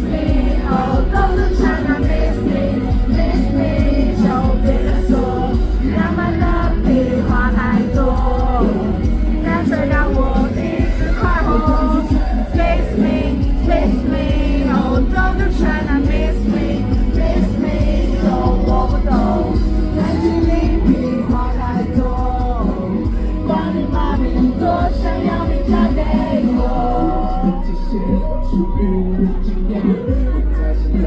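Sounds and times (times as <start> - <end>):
live pop band: 0.0 - 31.0
person singing: 0.0 - 31.0.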